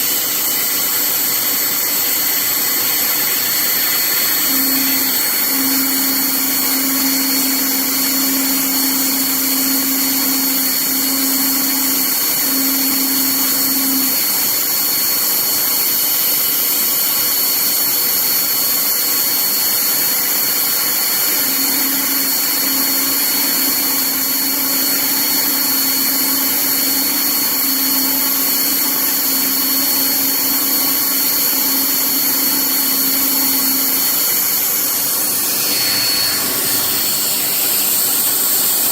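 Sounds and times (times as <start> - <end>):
spindle high whine: 0.0 - 15.3, 19.2 - 38.9.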